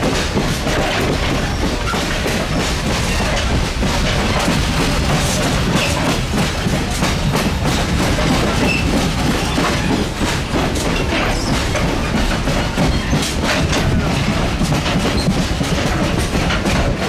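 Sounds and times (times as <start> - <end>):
train wheels rumbling on rails: 0.0 - 17.0
wheels clicking over rail joints: 0.0 - 17.0.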